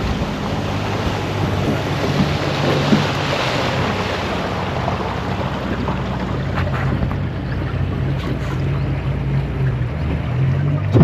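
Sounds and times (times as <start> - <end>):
motorboat engine running: 0.0 - 11.0
water rushing against hull: 0.0 - 11.0
wind buffeting microphone: 0.0 - 11.0.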